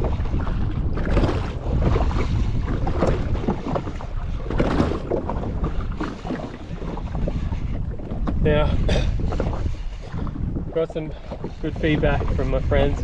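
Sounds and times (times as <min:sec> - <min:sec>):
sea water splashing against jetski: 0:00.0 - 0:13.0
wind buffeting the microphone: 0:00.0 - 0:13.0.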